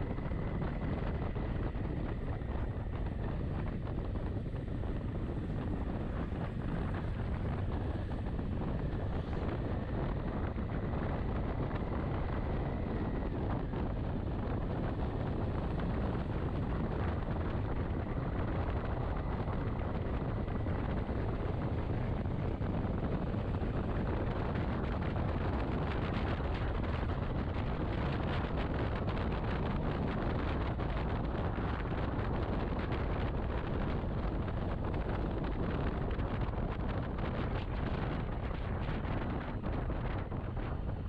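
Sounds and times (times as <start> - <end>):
motorcycle running: 0.0 - 41.0
wind buffeting microphone: 0.0 - 41.0.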